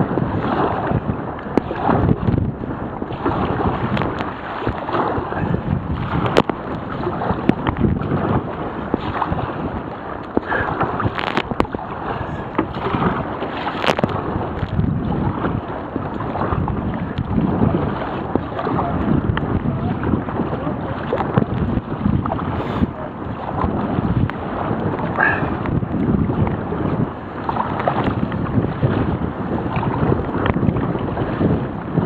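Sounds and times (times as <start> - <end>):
sea water surging and splashing: 0.0 - 32.0
wind buffeting microphone: 0.0 - 32.0.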